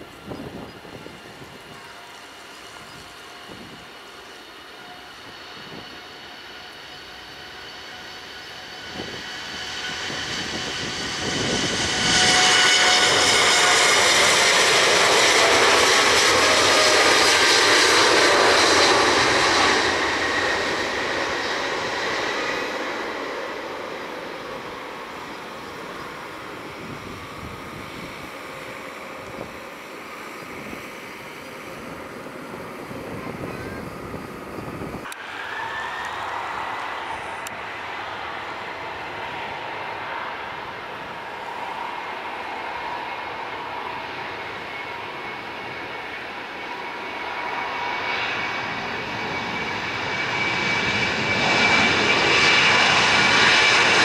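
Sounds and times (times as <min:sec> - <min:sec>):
jet engines passing: 0:00.0 - 0:54.0.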